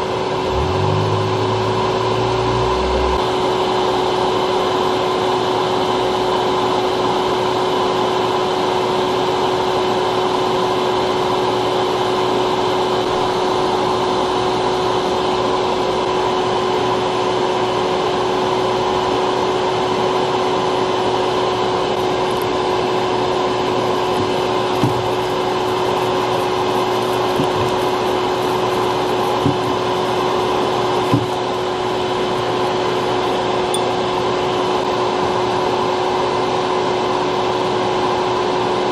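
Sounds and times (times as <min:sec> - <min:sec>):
electric fan motor humming: 0:00.0 - 0:07.2, 0:09.4 - 0:36.6.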